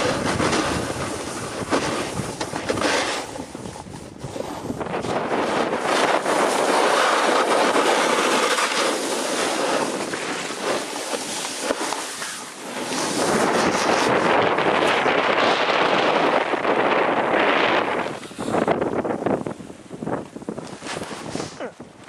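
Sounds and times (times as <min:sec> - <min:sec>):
skis scraping over hard snow: 0:00.0 - 0:21.6
wind on microphone: 0:00.0 - 0:22.0.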